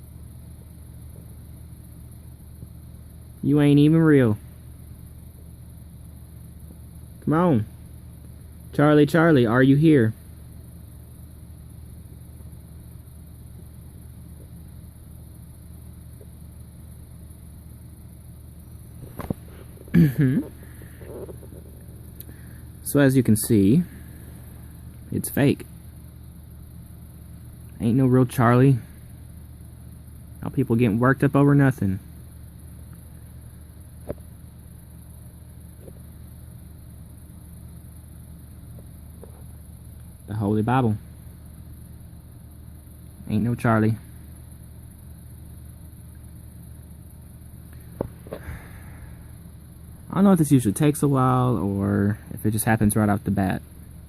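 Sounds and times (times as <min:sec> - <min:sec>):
low hum: 0:00.0 - 0:54.0
even hiss: 0:01.5 - 0:54.0.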